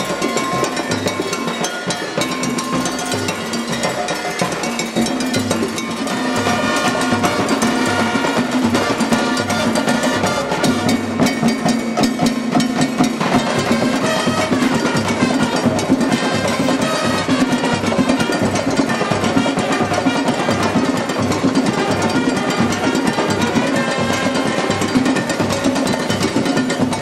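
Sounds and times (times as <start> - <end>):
percussion band drumming: 0.0 - 27.0
pitched melody line: 0.0 - 27.0.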